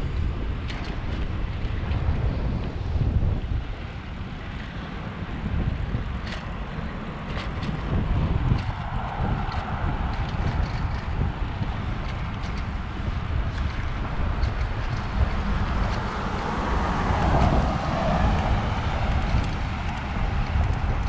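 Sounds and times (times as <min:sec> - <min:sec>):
bicycle clicks: 0:00.0 - 0:02.7, 0:04.0 - 0:21.0
wind buffeting microphone: 0:00.0 - 0:21.0.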